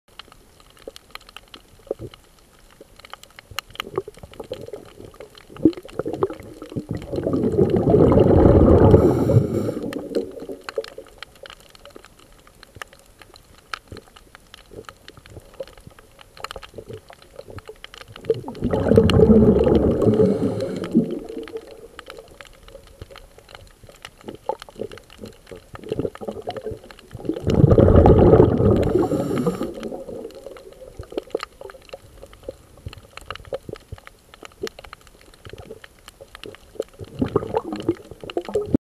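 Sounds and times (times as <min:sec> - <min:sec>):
faint crackling clicks: 0:00.1 - 0:38.8
underwater exhaled bubbles gurgling: 0:02.8 - 0:38.8.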